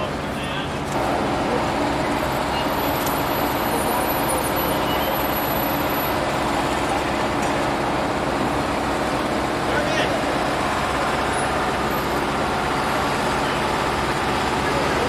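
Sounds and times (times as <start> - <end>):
large vehicle engine idling: 0.0 - 15.0.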